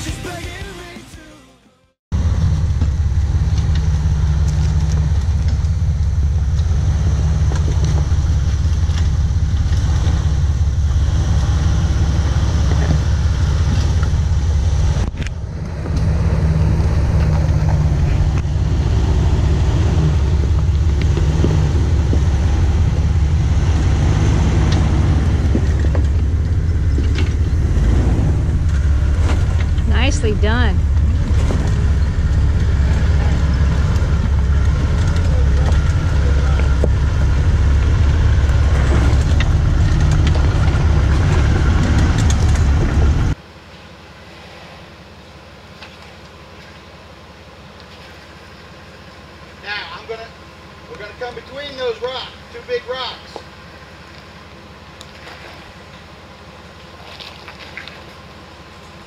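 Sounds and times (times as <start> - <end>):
vehicle engine rumble: 2.1 - 59.0.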